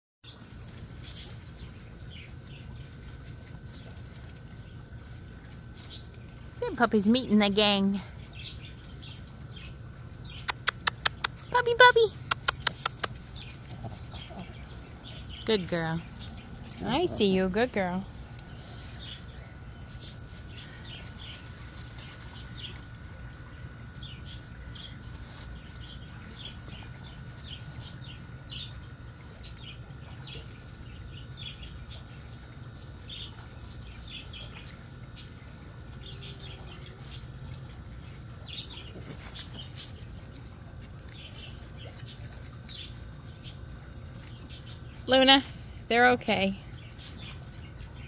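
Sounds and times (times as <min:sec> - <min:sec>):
small birds chirping: 0:00.2 - 0:48.0.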